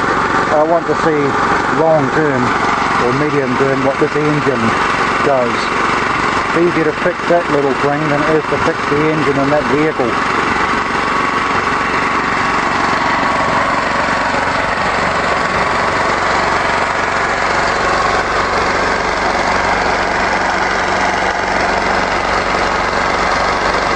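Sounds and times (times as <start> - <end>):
single-cylinder engine running: 0.0 - 23.9.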